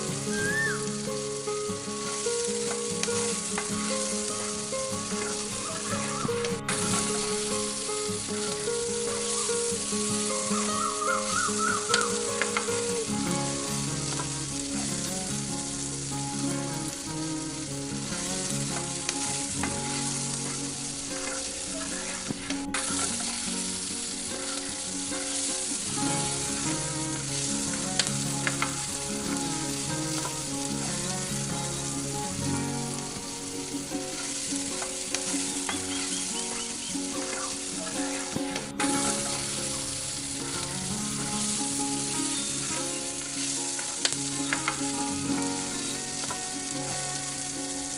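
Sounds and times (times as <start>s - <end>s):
food sizzling in hot oil: 0.0s - 47.9s.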